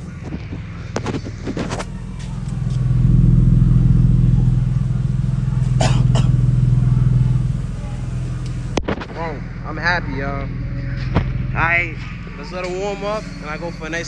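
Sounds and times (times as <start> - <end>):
car exhaust note: 0.0 - 14.0.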